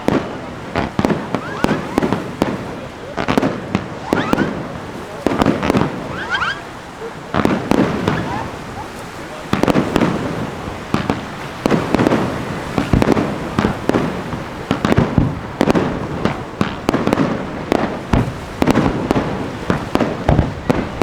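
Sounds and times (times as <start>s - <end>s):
fireworks launching and bursting: 0.0s - 21.0s.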